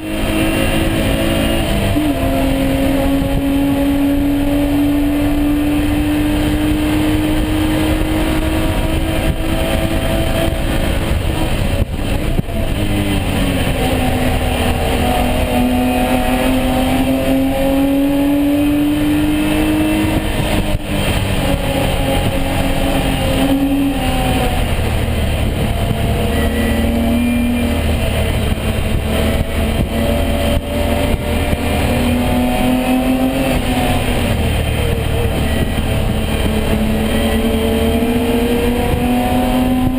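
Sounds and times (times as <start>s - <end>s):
race car engine accelerating: 0.0s - 39.9s
road and wind rumble: 0.0s - 39.9s.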